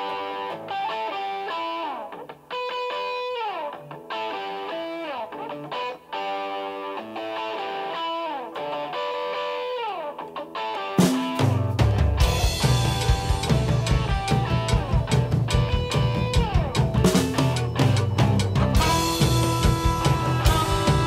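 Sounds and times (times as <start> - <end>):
electric guitar riff: 0.0 - 21.0
rock band playing: 0.0 - 21.0.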